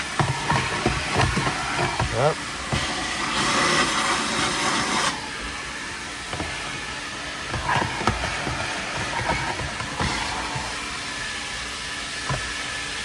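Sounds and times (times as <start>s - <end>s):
vacuum hose blowing air: 0.0s - 13.0s.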